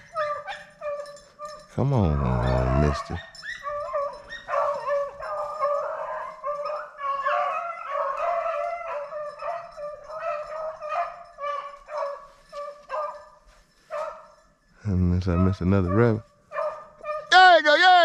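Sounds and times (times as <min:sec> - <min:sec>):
hounds baying: 0:00.0 - 0:17.6.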